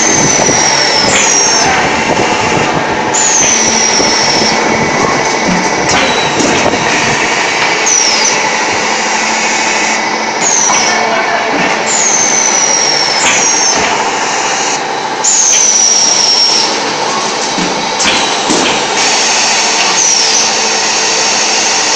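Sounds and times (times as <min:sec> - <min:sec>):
machine humming: 0:00.0 - 0:21.9.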